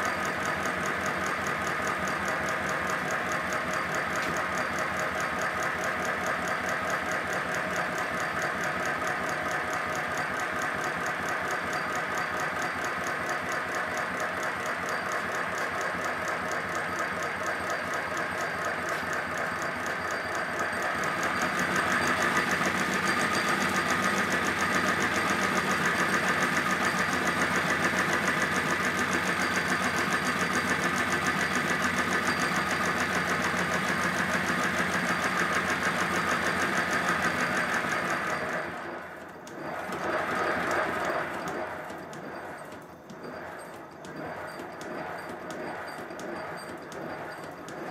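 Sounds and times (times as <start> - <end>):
model steam locomotive beat: 0.0 - 47.9.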